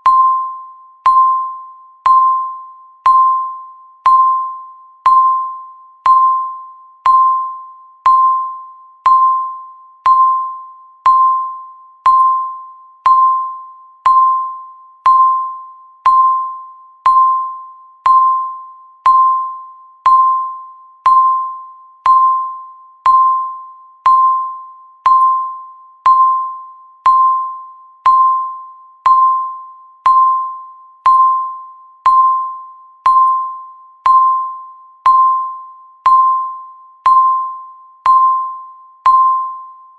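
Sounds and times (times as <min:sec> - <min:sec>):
electronic timer dings: 0:00.0 - 0:39.9.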